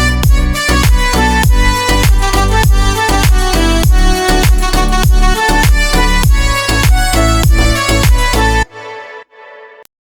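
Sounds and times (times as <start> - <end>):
electronic dance music: 0.0 - 9.9.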